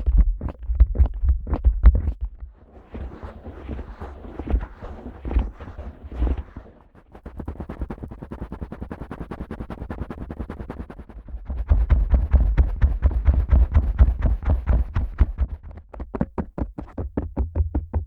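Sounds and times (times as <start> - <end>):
rapid tapping on microphone: 0.0 - 2.5, 4.5 - 18.0
fingers rubbing microphone: 0.0 - 17.0.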